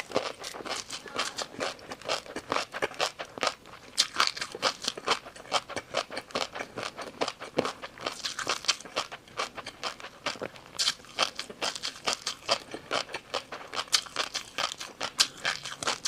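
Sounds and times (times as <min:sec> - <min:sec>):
crunchy food being chewed: 0:00.0 - 0:16.0.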